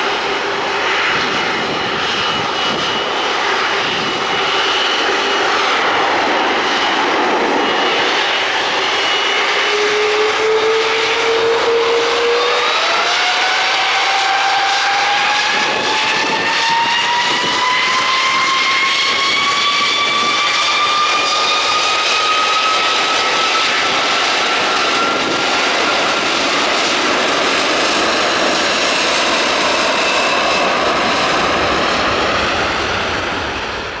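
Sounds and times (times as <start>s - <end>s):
jet engines at take-off power: 0.0s - 34.0s
rising engine whine: 0.0s - 34.0s.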